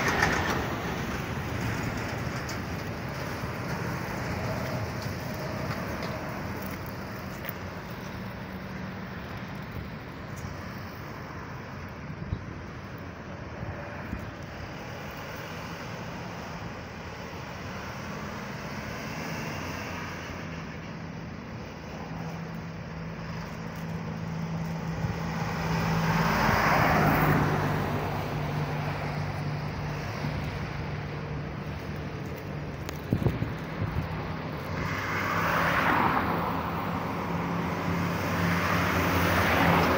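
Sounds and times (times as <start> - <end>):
diesel engines droning: 0.0 - 39.9
tyre and road noise: 0.0 - 39.9.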